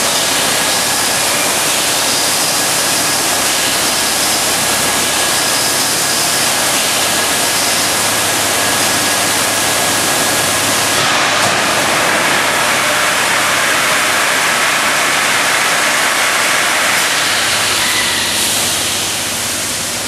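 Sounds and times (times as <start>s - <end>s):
water jets spraying: 0.0s - 20.0s.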